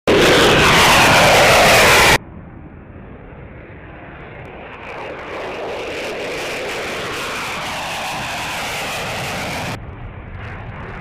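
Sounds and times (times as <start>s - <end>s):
loud close jet roar: 0.1s - 11.0s
quieter jet roar: 0.1s - 11.0s.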